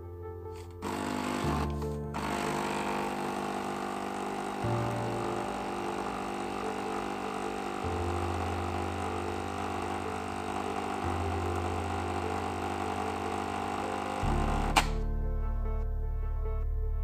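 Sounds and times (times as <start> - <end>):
coffee streaming into glass: 0.8 - 14.8
coffee machine pump humming: 0.8 - 15.0.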